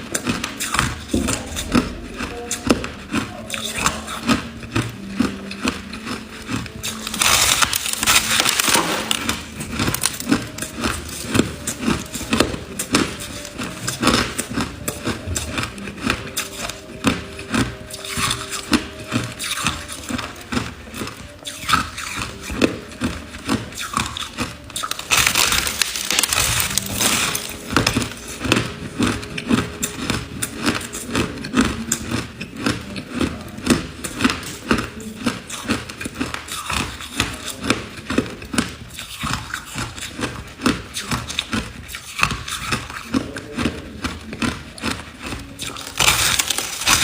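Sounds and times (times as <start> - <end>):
ice being chewed and crunched: 0.0 - 47.0.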